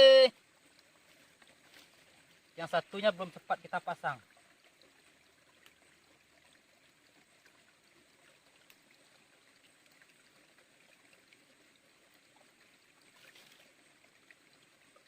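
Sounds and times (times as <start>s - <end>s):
small river flowing: 0.0s - 15.0s.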